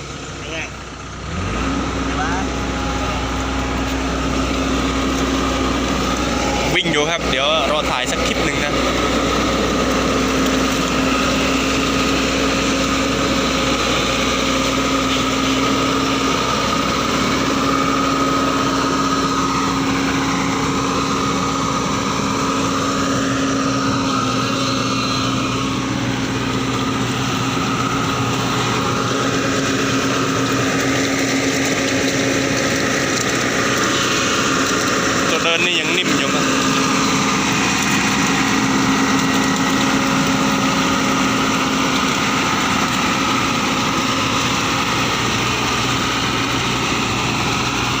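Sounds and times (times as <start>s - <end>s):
heavy vehicle engine running: 0.0s - 48.0s.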